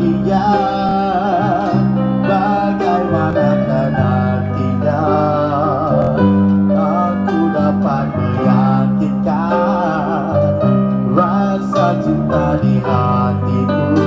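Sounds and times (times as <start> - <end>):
acoustic guitars: 0.0 - 14.0
sustained bass line: 0.0 - 14.0
wavering lead melody: 0.0 - 14.0.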